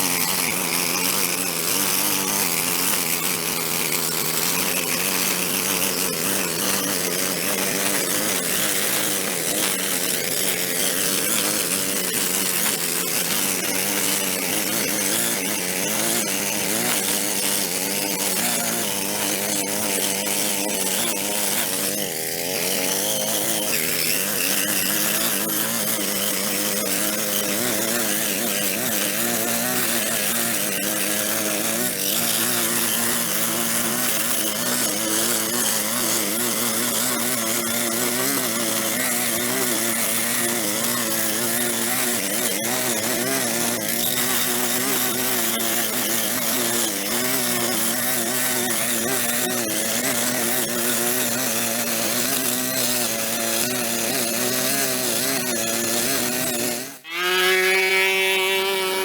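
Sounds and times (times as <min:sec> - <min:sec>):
small gas engine cutting: 0:00.0 - 0:59.0.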